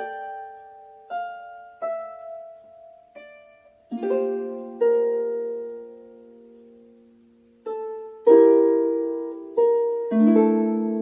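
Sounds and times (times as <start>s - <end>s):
harp plucked notes and chords: 0.0s - 6.9s, 7.6s - 11.0s.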